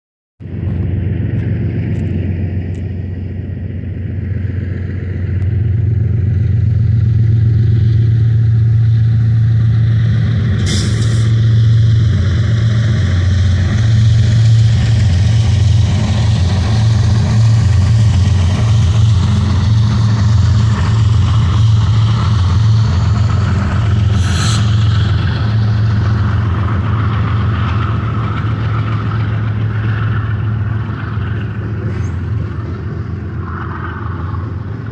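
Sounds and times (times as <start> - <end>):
diesel locomotive engines droning: 0.4 - 34.9.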